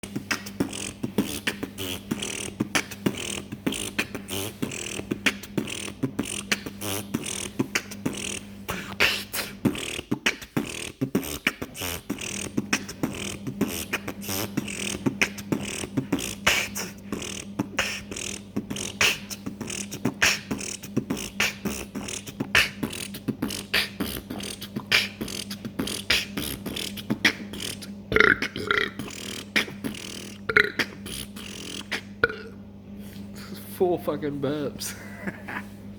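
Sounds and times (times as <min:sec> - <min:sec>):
beatboxing: 0:00.0 - 0:35.4.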